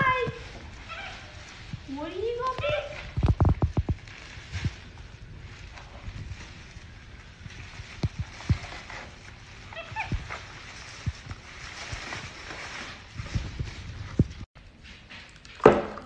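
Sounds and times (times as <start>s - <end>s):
plastic bag rustling: 0.0s - 14.5s.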